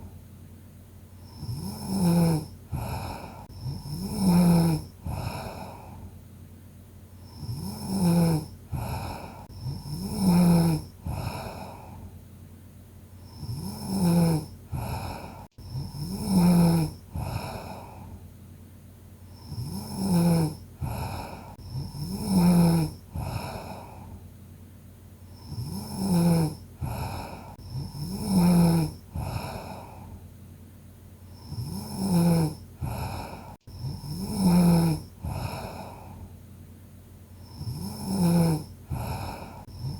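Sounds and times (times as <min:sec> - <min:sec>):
person snoring: 0:01.2 - 0:06.1, 0:07.2 - 0:12.2, 0:13.2 - 0:18.2, 0:19.3 - 0:24.2, 0:25.3 - 0:30.2, 0:31.3 - 0:36.3, 0:37.4 - 0:39.9.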